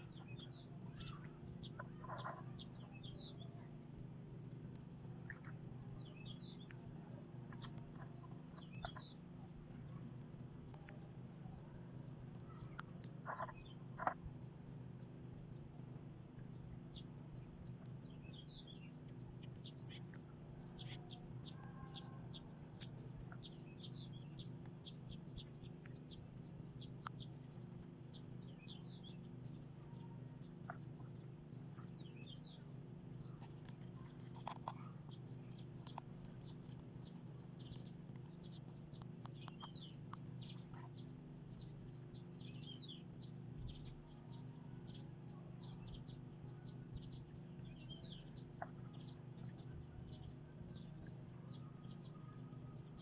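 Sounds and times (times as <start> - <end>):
faint low hum: 0.0 - 53.0
small birds chirping: 0.0 - 53.0.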